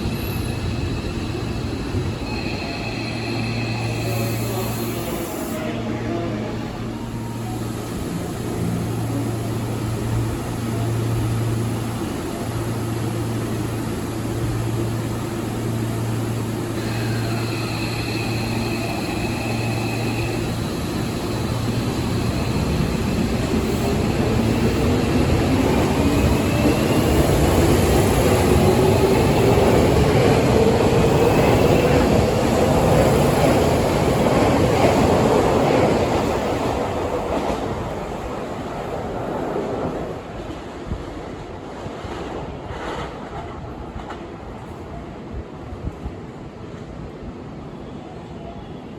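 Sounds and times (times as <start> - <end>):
train low hum: 0.0 - 48.9.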